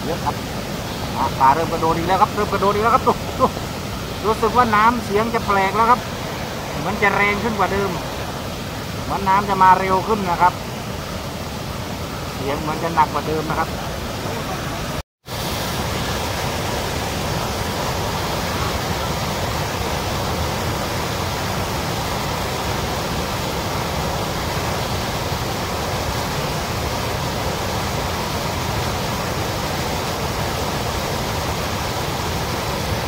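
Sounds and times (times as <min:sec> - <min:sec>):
water rushing over weir: 0:00.0 - 0:33.0.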